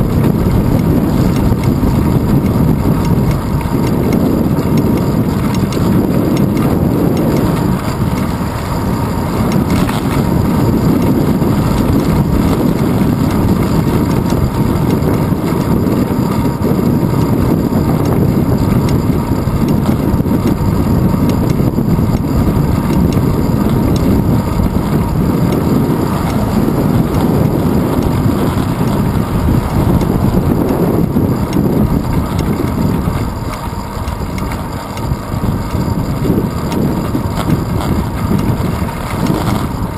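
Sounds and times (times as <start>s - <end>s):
tyre and road rumble: 0.0s - 39.9s
wind buffeting microphone: 0.0s - 39.9s.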